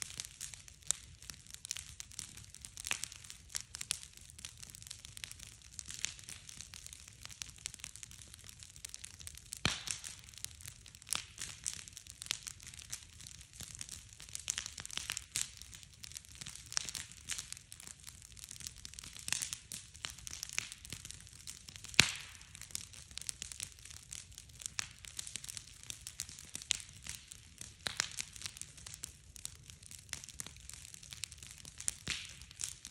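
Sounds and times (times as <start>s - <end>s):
bonfire crackling and popping: 0.0s - 32.9s.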